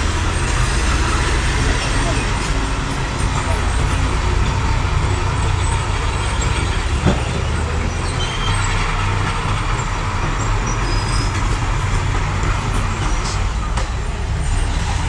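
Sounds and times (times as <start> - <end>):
metal squeaking on metal: 0.0 - 13.8
heavy machinery diesel engine: 0.0 - 15.0.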